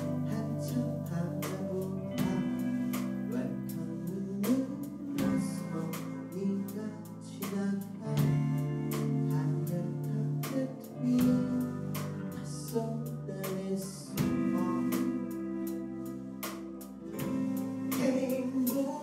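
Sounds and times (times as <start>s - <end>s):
live band instrumental music: 0.0s - 19.0s.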